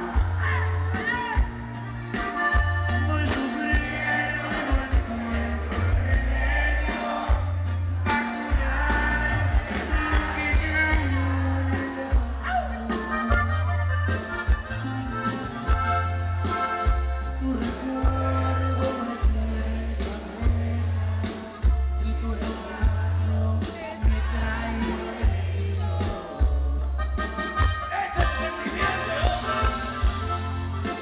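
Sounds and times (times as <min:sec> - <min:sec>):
drum kit: 0:00.0 - 0:31.0
electric bass: 0:00.0 - 0:31.0
guitar: 0:00.0 - 0:31.0
button accordion: 0:01.7 - 0:22.8, 0:27.0 - 0:31.0.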